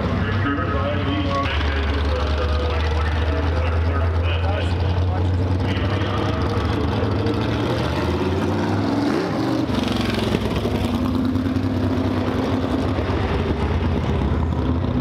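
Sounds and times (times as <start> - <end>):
race car engine accelerating: 0.8 - 15.0.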